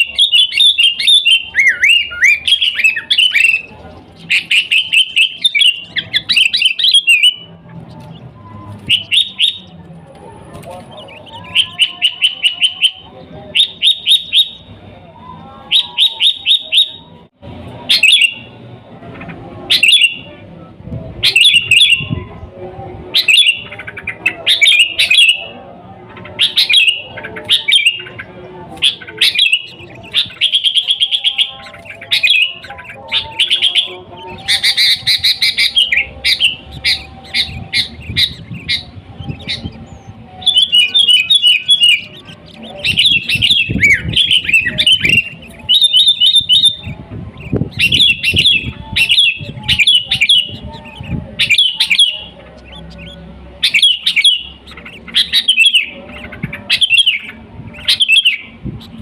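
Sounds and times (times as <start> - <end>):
bulbul singing whistled phrases: 0.0 - 20.4, 21.2 - 59.0.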